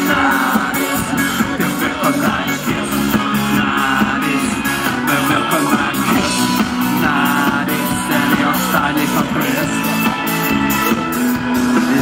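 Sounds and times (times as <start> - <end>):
pop-rock band playing: 0.0 - 12.0.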